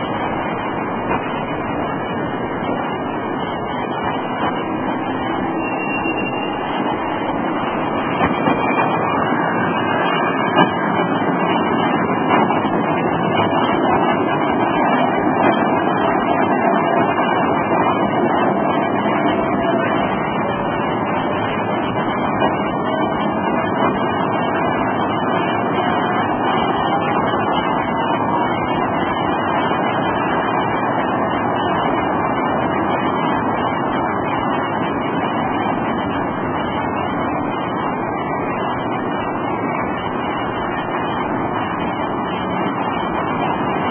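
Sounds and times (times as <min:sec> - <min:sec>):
street and traffic noise: 0:00.0 - 0:43.9
tram whine rising in pitch: 0:00.0 - 0:43.9.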